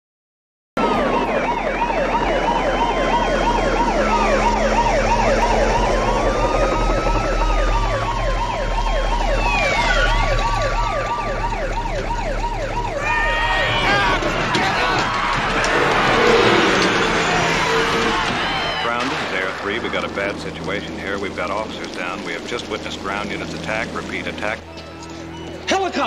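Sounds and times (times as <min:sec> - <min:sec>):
police sirens yelping and wailing: 0:00.8 - 0:26.0.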